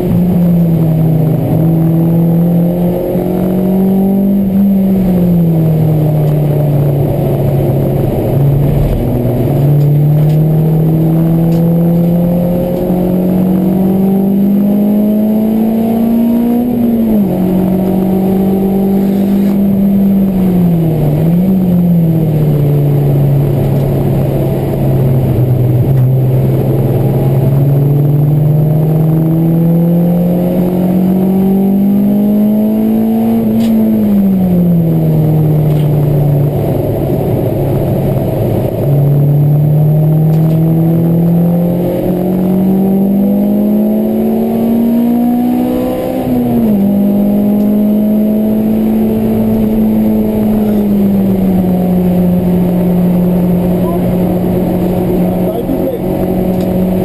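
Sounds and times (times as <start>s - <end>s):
car engine revving under load: 0.0s - 57.0s.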